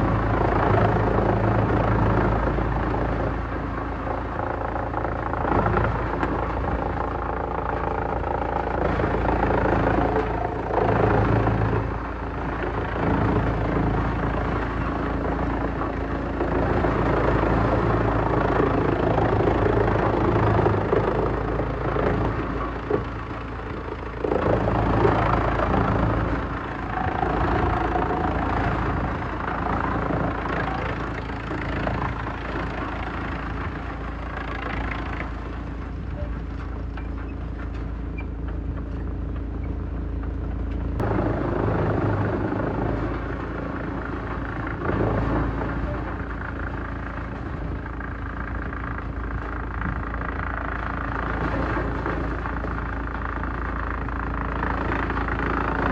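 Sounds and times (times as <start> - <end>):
wood shredder running: 0.0 - 55.9.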